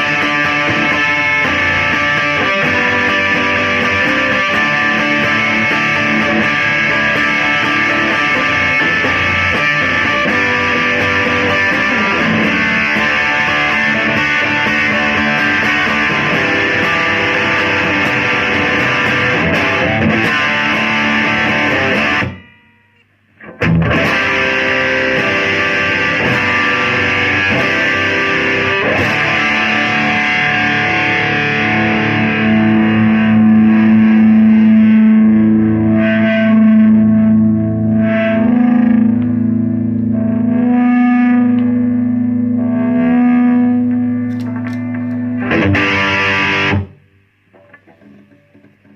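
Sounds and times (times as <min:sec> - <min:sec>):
distorted electric guitar: 0:00.0 - 0:48.9.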